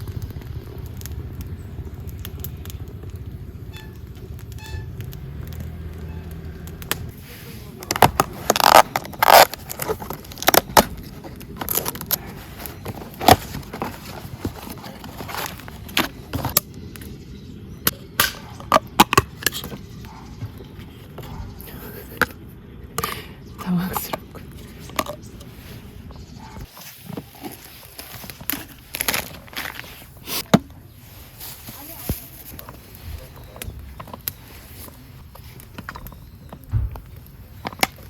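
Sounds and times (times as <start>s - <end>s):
campfire crackling and popping: 0.0s - 20.2s, 26.6s - 38.0s.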